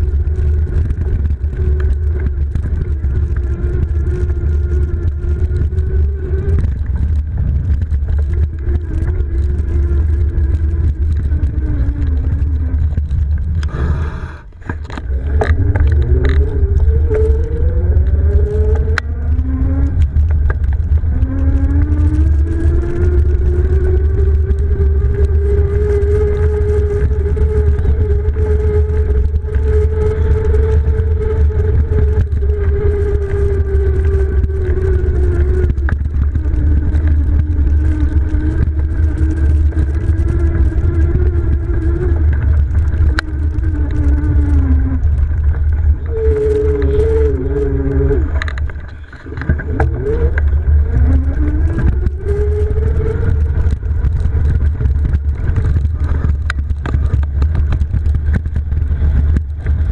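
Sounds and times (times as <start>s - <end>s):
electric bike motor whining: 0.0s - 59.9s
wind rumble on microphone: 0.0s - 59.9s.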